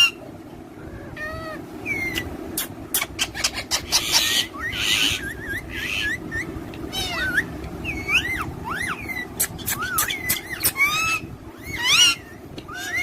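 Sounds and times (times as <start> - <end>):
parrots chirping: 0.0 - 0.2, 0.8 - 13.0
parrots squawking: 0.0 - 0.2, 0.8 - 13.0
low background hum: 0.0 - 13.0.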